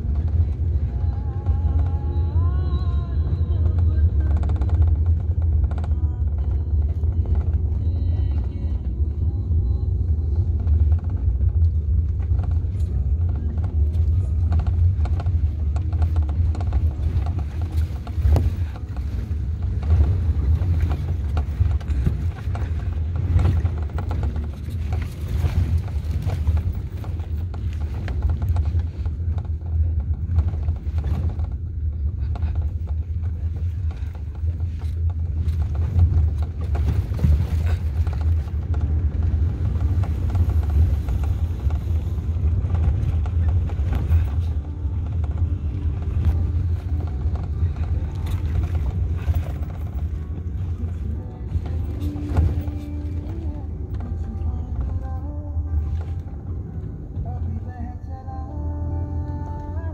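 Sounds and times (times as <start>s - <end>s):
vehicle rumble from inside cabin: 0.0s - 59.9s.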